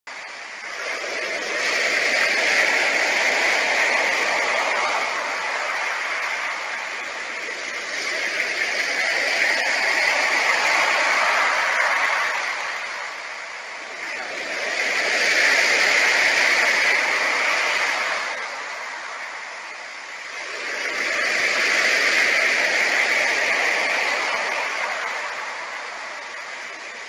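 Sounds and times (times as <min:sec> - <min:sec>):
rushing churning water: 0:00.1 - 0:27.0.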